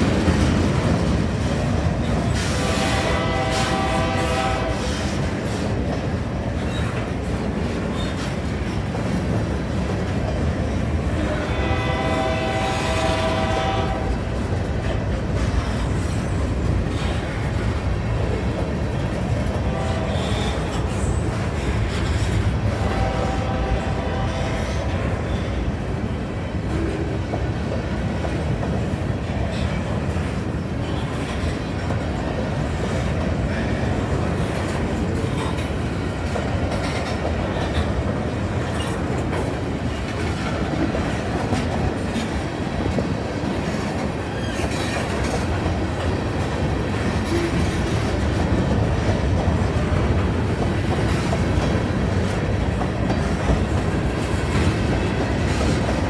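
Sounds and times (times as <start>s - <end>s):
train cars clicking and clanking: 0.0s - 56.0s
train wheels rumbling on rail: 0.0s - 56.0s.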